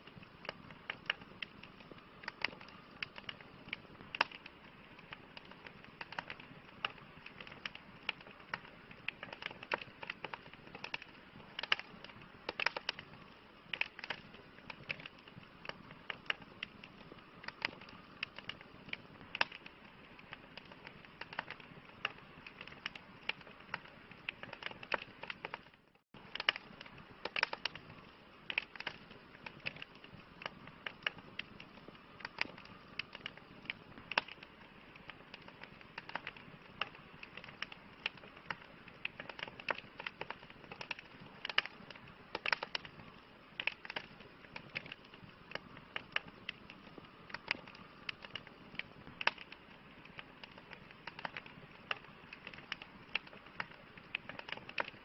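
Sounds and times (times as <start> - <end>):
burning wood popping: 0.0 - 55.0
campfire hissing: 0.0 - 55.0.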